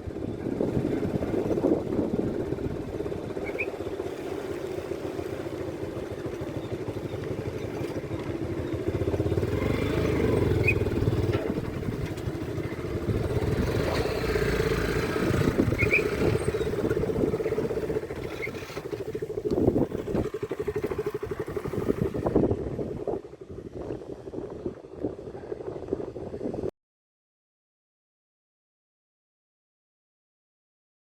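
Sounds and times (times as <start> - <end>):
vehicle engine rumbling: 0.0 - 26.7.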